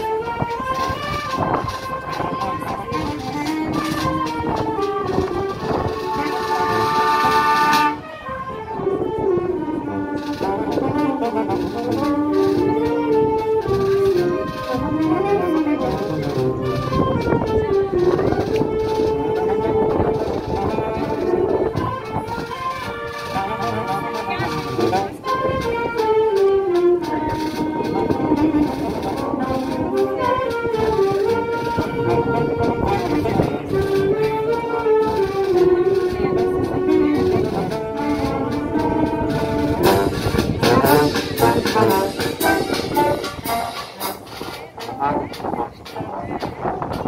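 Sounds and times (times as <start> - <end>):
marching drums: 0.0 - 8.0, 10.1 - 47.0
brass band playing a march: 0.0 - 47.0.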